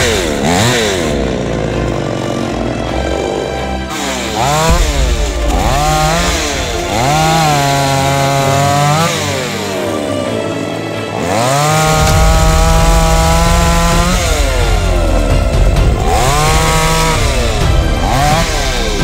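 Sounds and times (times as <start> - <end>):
chainsaw cutting and revving: 0.0 - 19.0.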